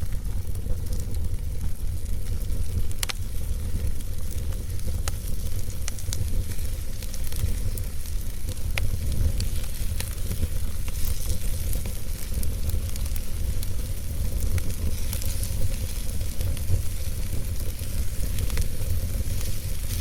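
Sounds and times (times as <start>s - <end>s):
fire rumble and hiss: 0.0s - 20.0s
logs crackling and popping: 0.0s - 20.0s.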